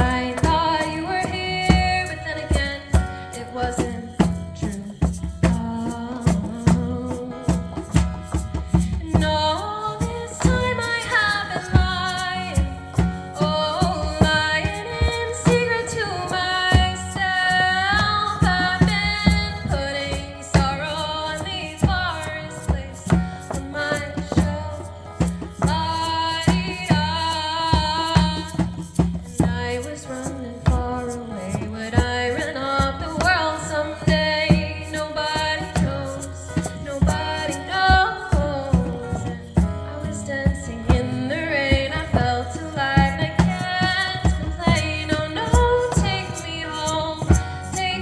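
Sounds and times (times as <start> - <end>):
person singing: 0.0 - 7.9, 8.7 - 25.0, 25.6 - 48.0
hand drum beat: 0.0 - 48.0
light percussion: 0.0 - 48.0.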